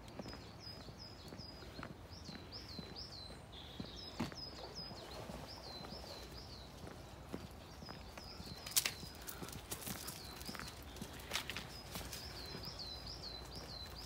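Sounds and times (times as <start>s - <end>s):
footsteps on gravel: 0.0s - 14.0s.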